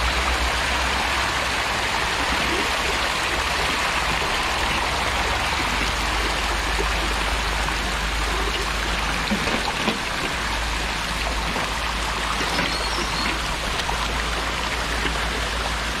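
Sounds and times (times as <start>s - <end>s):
catfish splashing in water tank: 1.7s - 16.0s.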